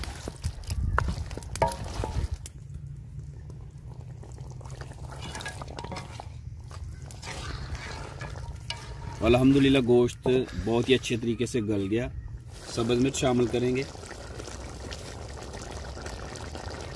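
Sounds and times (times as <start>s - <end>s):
gravy bubbling in a pot: 0.0s - 16.9s.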